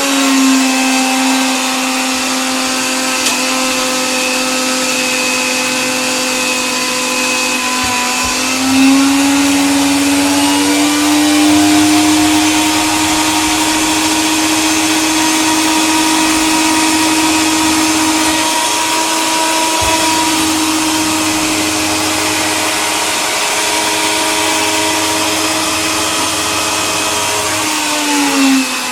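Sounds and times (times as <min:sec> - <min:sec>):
electric coffee grinder running: 0:00.0 - 0:28.9.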